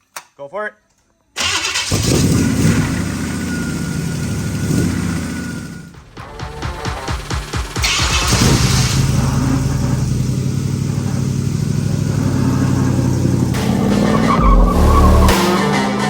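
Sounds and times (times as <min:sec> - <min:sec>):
car engine revving: 0:01.4 - 0:16.0.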